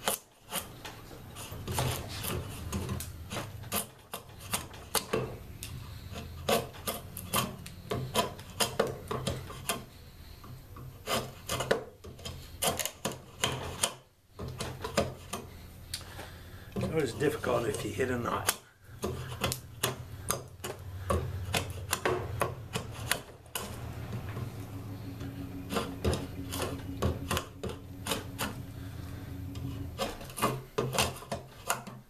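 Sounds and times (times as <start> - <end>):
draw knife scraping wood: 0.0 - 10.0, 10.7 - 15.6, 16.7 - 32.0.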